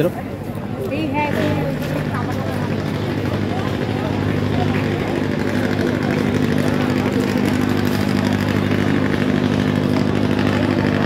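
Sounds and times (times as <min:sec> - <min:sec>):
faint voices murmuring: 0:00.0 - 0:11.0
engine humming: 0:00.2 - 0:11.0.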